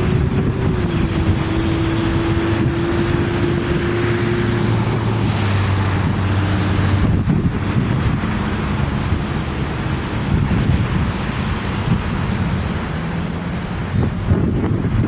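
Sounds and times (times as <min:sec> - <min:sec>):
storm wind on microphone: 0:00.0 - 0:15.0.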